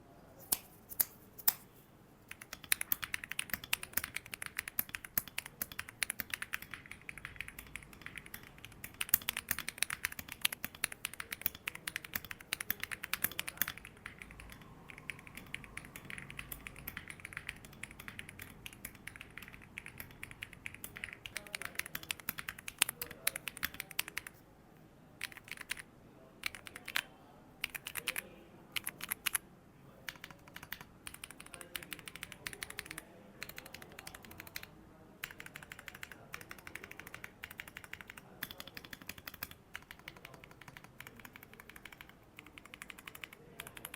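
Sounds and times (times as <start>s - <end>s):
mechanical keyboard typing: 2.3s - 24.4s, 25.2s - 29.4s, 30.1s - 43.9s.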